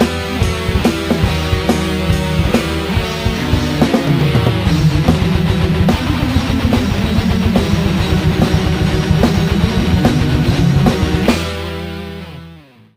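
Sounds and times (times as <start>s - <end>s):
fast drumming: 0.0s - 11.6s
distorted electric guitars: 0.0s - 12.9s.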